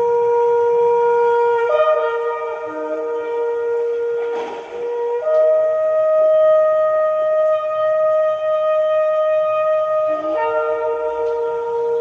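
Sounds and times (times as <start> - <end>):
wind instrument holding a note: 0.0 - 12.0.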